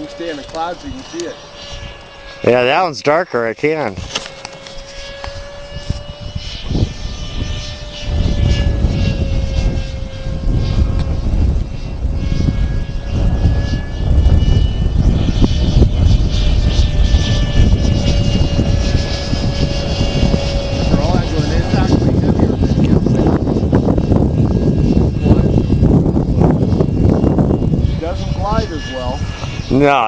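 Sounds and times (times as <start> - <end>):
electric fan motor whining: 0.0 - 30.0
wind buffeting microphone: 0.0 - 30.0.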